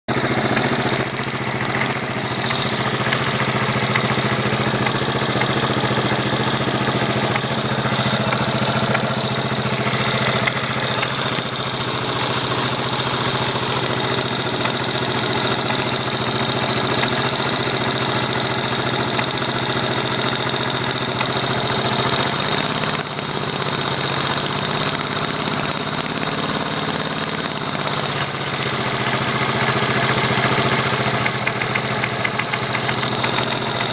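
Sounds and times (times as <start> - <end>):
engine knocking: 0.1 - 33.9
motorcycle engine idling: 0.1 - 33.9.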